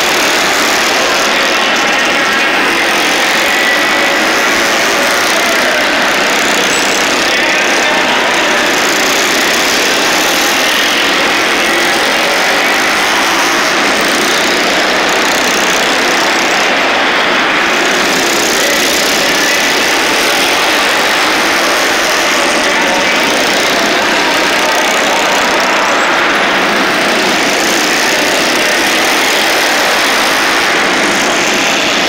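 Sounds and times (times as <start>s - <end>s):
minibike engines racing: 0.0s - 32.0s.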